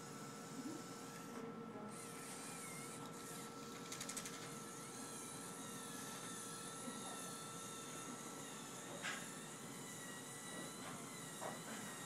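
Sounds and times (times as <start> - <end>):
faint motor whine: 0.0 - 12.0
toy truck motors whirring: 0.0 - 12.0.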